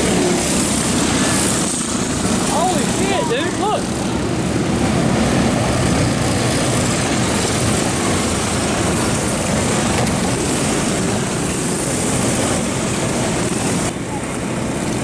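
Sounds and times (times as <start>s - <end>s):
go-kart engines buzzing: 0.0s - 15.0s.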